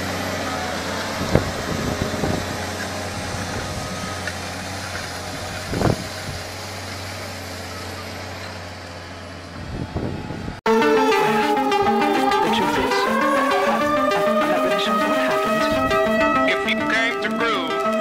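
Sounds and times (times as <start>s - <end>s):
tractor engine running: 0.0s - 10.0s, 10.7s - 18.0s.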